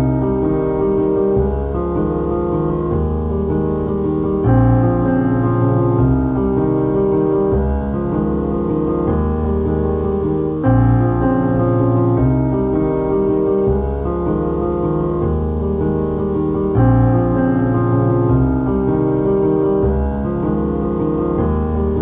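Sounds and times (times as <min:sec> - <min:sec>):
slow piano chords: 0:00.0 - 0:22.0.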